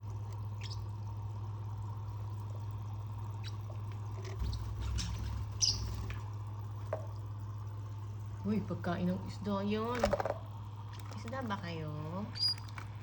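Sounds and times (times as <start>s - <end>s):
steady low hum: 0.0s - 13.0s
water trickling: 0.0s - 13.0s.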